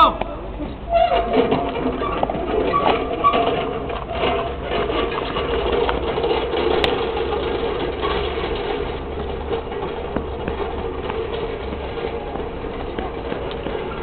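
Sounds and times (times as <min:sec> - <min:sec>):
engine running: 0:00.5 - 0:14.0.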